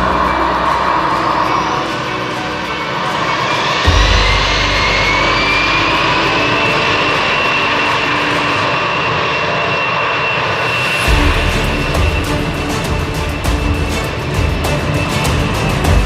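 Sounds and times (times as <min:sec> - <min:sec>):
jet engine whine: 0:00.0 - 0:15.9
jet engine rush: 0:00.0 - 0:16.0.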